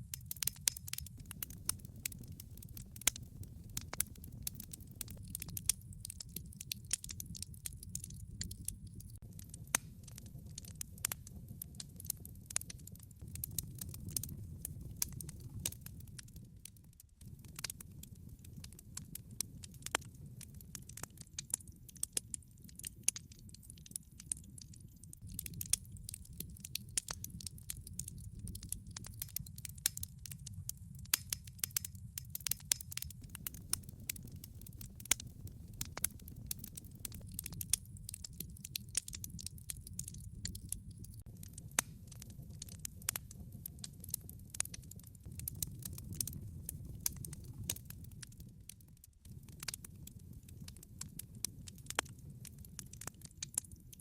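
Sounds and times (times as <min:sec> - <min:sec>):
fire rumbling: 0:00.0 - 0:54.0
log fire crackling and snapping: 0:00.0 - 0:54.0.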